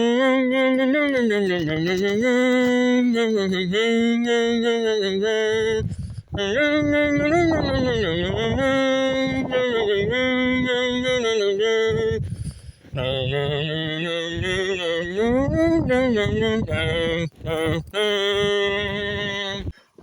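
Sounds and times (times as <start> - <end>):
person singing long notes: 0.0 - 19.8.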